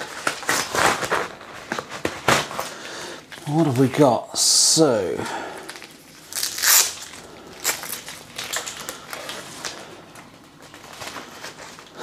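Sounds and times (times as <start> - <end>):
cables rustling and crinkling: 0.0 - 12.0.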